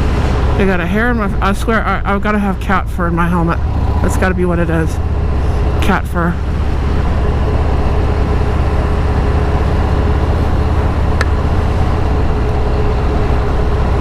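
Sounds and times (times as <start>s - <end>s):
motorcycle engine drone: 0.0s - 14.0s
wind rush on microphone: 0.0s - 14.0s.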